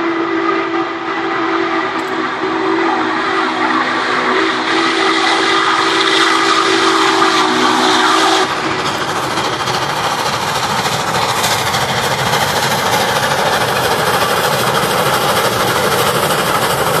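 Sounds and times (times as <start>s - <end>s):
steam train rumbling past: 0.0s - 17.0s
wheels rattling on rails: 1.8s - 17.0s.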